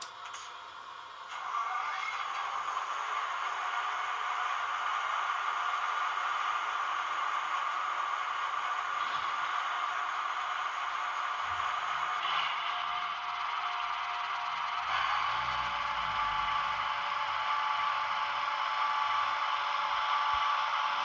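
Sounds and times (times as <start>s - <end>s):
model railcar engine sound: 0.0s - 21.0s.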